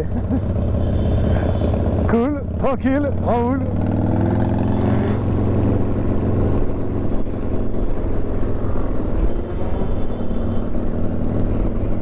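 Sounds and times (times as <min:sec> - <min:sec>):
motorcycle engines rumbling: 0:00.0 - 0:12.0.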